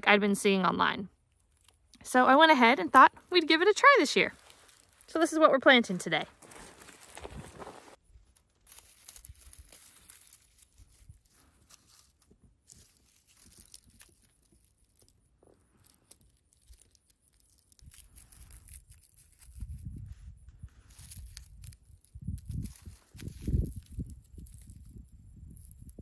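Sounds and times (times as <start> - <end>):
dry stems rustling: 1.2 - 26.0
plants pulled from soil crackling: 1.2 - 26.0.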